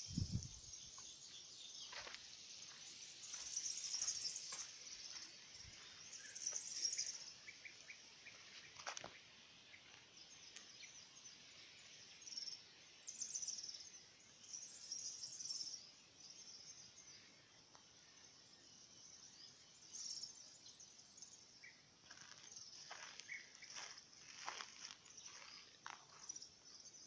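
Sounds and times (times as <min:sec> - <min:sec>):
open-air ambience hiss: 0:00.0 - 0:27.0.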